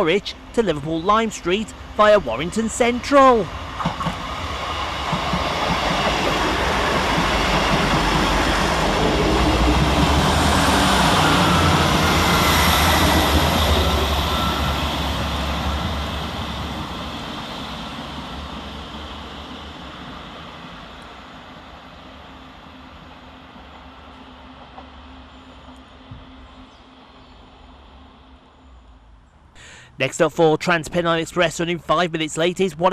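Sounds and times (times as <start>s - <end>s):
diesel train passing: 0.0s - 32.9s.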